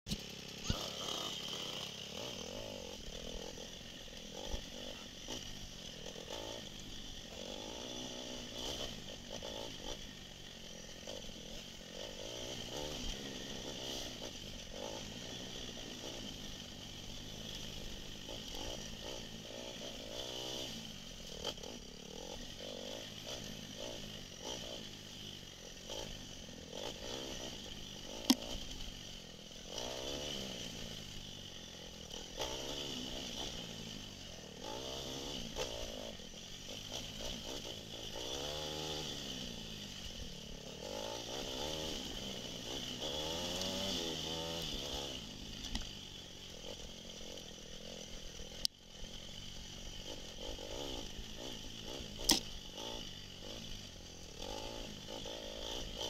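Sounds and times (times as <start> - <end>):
dirt bike engine revving: 0.1 - 56.0.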